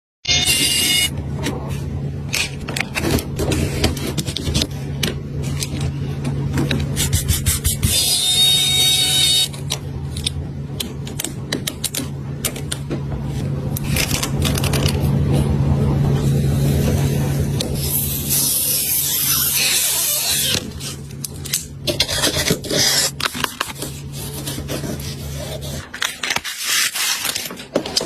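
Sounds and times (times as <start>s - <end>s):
steady low hum: 0.3s - 28.0s.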